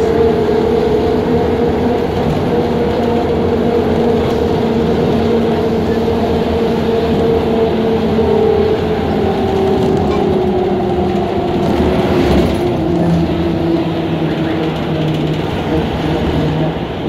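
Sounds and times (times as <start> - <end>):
bus engine drone: 0.0 - 17.0
road rumble: 0.0 - 17.0.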